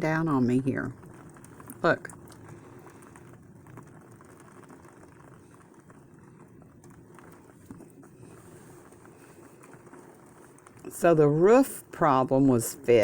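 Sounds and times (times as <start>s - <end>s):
heavy rain patter: 0.0s - 13.0s
water leaking through window: 0.0s - 13.0s.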